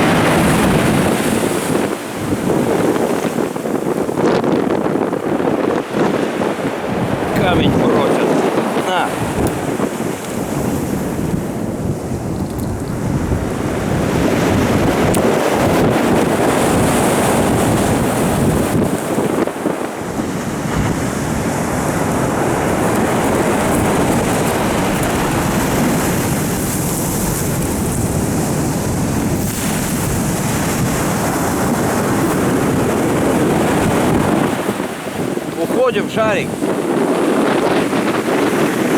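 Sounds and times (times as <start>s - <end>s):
storm waves crashing on shore: 0.0s - 38.9s
wind buffeting microphone: 0.0s - 38.9s.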